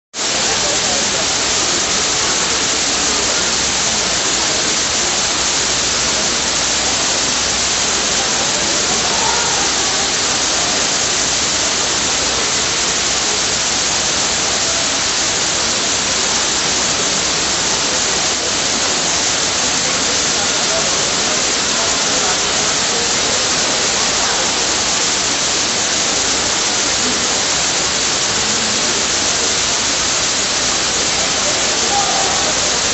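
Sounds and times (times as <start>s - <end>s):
waterfall pouring into pool: 0.2s - 32.9s.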